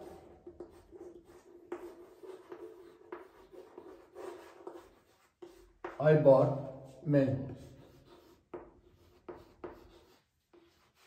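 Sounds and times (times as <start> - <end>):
chalk scratching on chalkboard: 0.0 - 11.0.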